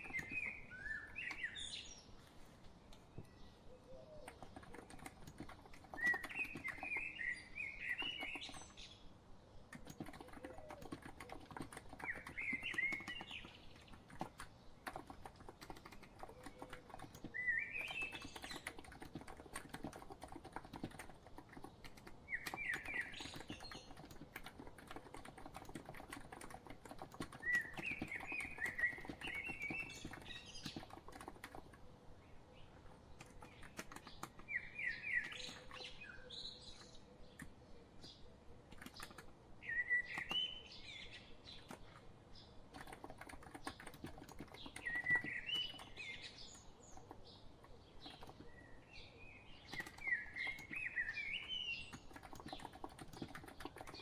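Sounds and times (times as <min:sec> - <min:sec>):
bird singing chirps: 0:00.0 - 0:02.2, 0:03.1 - 0:09.1, 0:09.8 - 0:42.6, 0:43.4 - 0:54.0
soft keyboard typing: 0:00.0 - 0:09.0, 0:09.6 - 0:54.0.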